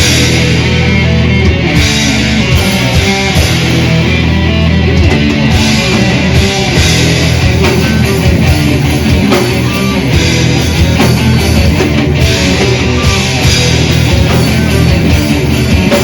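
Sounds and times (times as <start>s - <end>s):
distorted electric guitars: 0.0s - 16.0s
drum kit: 0.0s - 16.0s.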